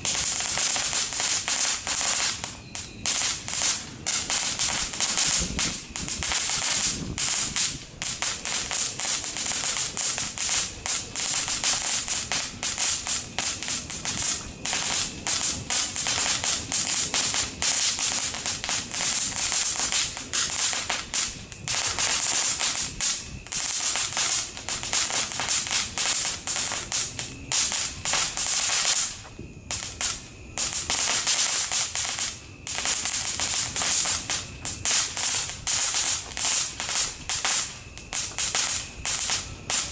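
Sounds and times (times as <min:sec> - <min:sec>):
firework crackling and hissing: 0:00.0 - 0:39.9.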